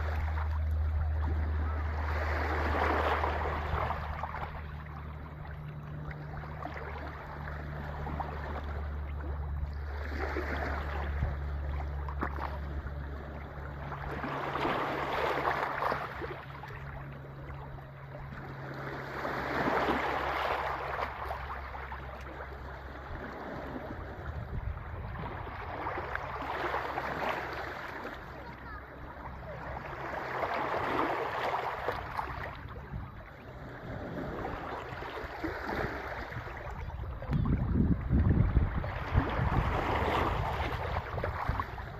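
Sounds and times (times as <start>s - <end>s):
low hum: 0.0s - 41.9s
sea waves washing ashore: 0.0s - 41.9s.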